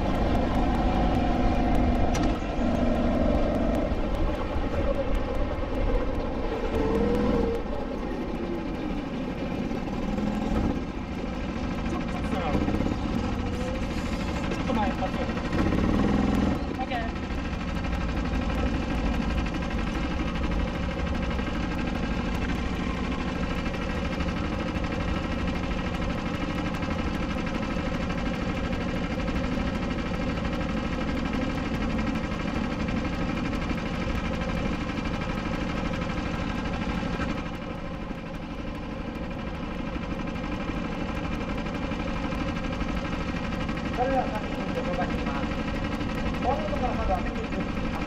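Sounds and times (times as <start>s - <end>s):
kart engine idling: 0.0s - 48.0s.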